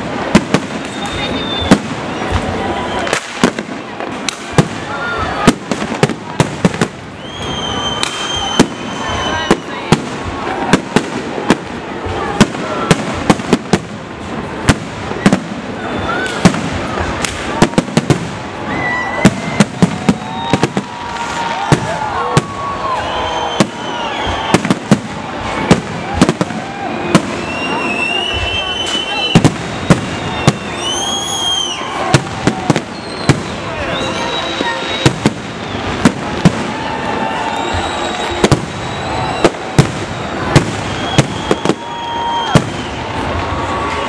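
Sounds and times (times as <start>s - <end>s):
fireworks hissing and crackling: 0.0s - 44.0s.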